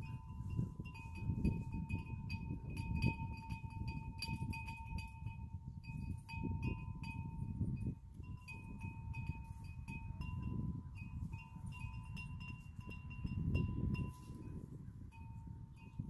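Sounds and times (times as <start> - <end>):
wind chime clinking: 0.0 - 16.0
wind rumbling on microphone: 0.0 - 16.0.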